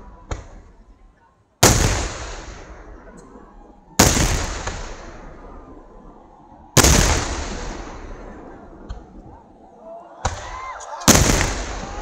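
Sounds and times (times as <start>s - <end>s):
loud firework blasts: 1.6s - 12.0s
rumble after blasts: 1.6s - 12.0s.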